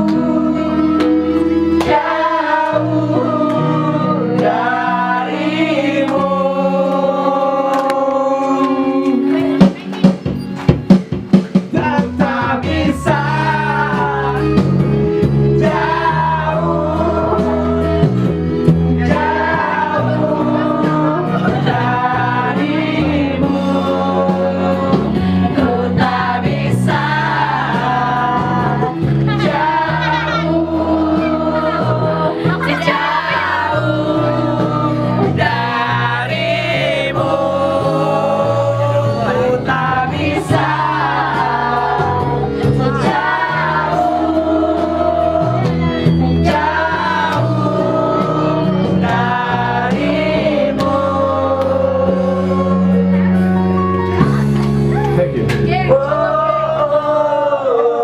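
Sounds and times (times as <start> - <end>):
group of voices singing: 0.0 - 10.4, 11.3 - 58.0
amplified backing music: 0.0 - 58.0.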